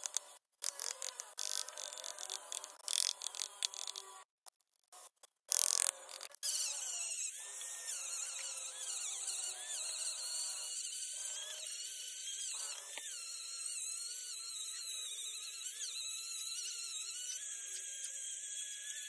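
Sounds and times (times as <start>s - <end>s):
rotary tool whining on wood: 0.0s - 4.3s, 5.0s - 19.0s.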